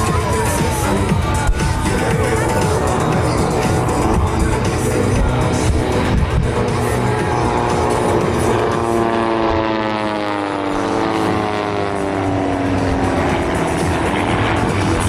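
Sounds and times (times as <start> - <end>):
loud steady rumble: 0.0 - 15.0
propeller airplane flying past: 0.0 - 15.0.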